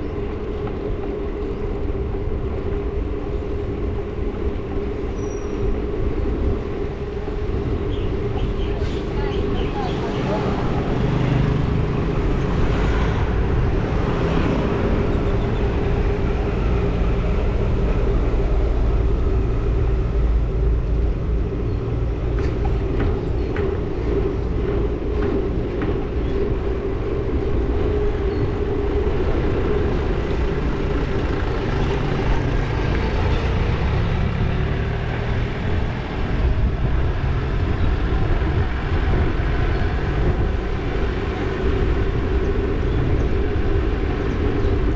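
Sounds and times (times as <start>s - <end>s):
road and traffic noise: 0.0s - 44.9s
wind rumbling on microphone: 0.0s - 44.9s.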